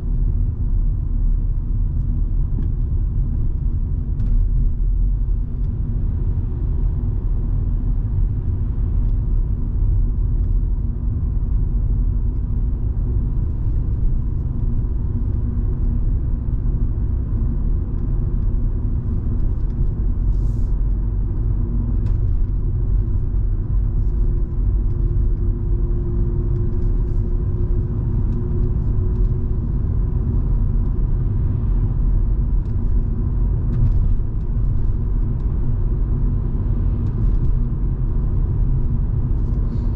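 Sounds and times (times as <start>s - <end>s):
car engine and road rumble: 0.0s - 39.9s
constant droning hum: 0.0s - 39.9s.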